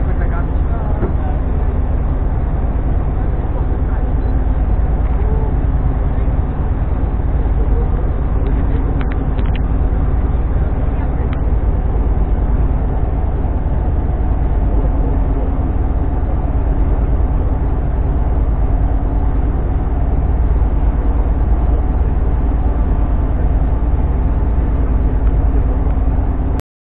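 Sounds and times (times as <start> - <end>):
boat engine running: 0.0 - 26.6.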